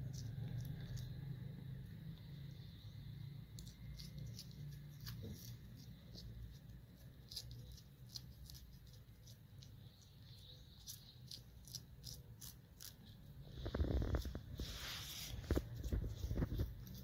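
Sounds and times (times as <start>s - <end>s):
kitten chewing and licking: 0.0s - 2.6s, 3.3s - 17.0s
low steady hum: 0.0s - 17.0s.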